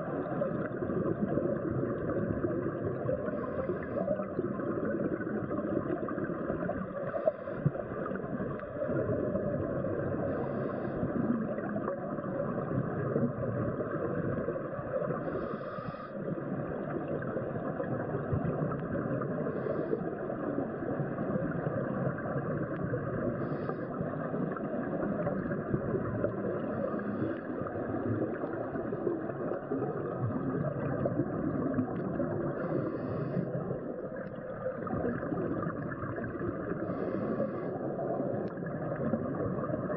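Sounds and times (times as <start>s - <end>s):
muffled underwater rushing: 0.0s - 39.9s
regulator exhale bubbling: 0.0s - 39.9s.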